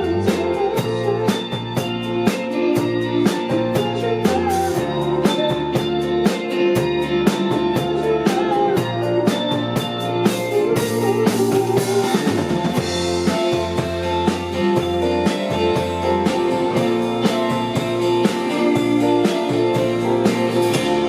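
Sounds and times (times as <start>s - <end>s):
band playing rock song: 0.0s - 21.0s.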